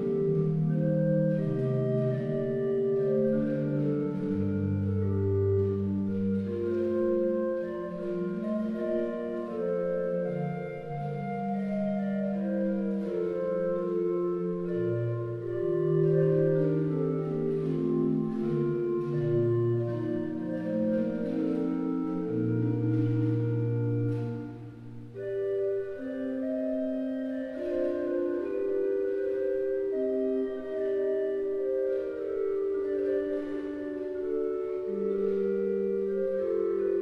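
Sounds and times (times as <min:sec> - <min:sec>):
pipe organ playing held notes: 0:00.0 - 0:37.0.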